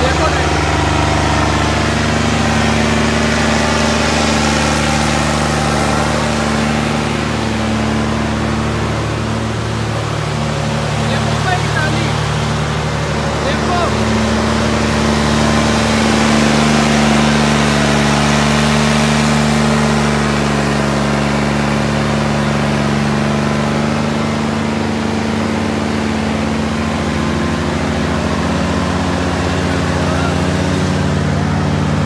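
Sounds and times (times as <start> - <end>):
tractor engine under heavy load: 0.0 - 32.0.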